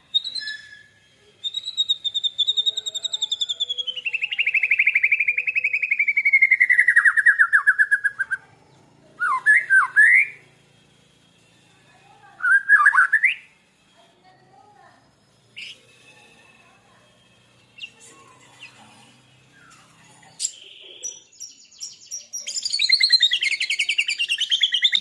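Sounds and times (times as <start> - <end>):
caged birds singing: 0.0 - 10.6, 12.4 - 13.5, 15.2 - 16.0, 17.4 - 25.0.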